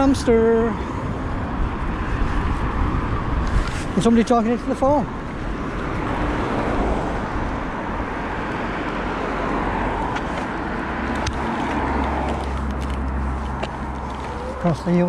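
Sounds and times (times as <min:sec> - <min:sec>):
roadside traffic noise: 0:00.0 - 0:15.0.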